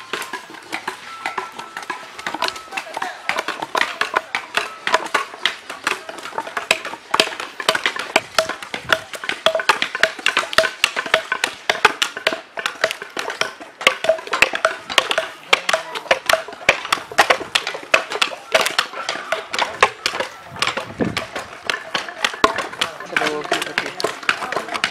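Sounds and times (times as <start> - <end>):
machetes chopping wood: 0.0 - 24.9.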